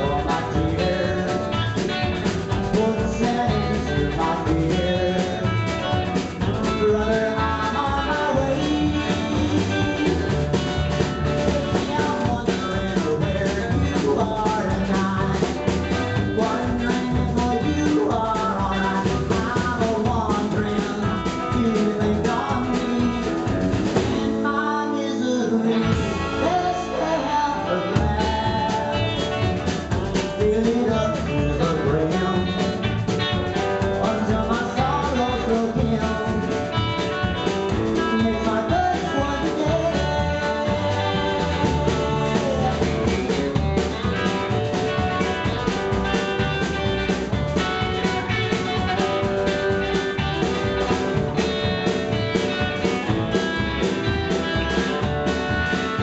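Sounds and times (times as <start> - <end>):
double bass: 0.0 - 56.0
drum kit: 0.0 - 56.0
electric guitar: 0.0 - 56.0
man singing: 0.0 - 56.0.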